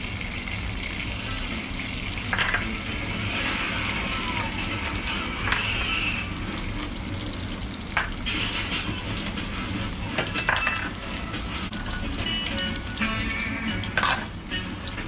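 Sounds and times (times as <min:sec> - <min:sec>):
crackles and pops of frying: 0:00.0 - 0:15.0
oil sizzling: 0:00.0 - 0:15.0.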